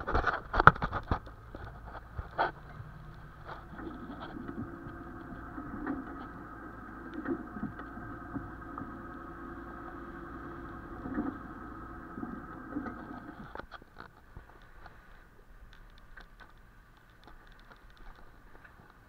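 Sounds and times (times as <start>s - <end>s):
steady mechanical hum: 0.0s - 19.0s
water splashing along hull: 0.0s - 19.0s.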